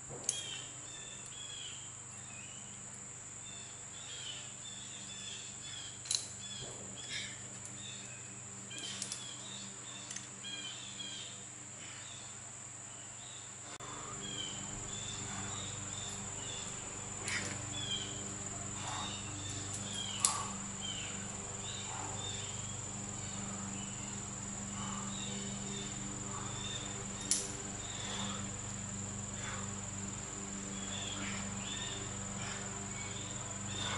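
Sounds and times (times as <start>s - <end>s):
high insect trill: 0.0s - 33.9s.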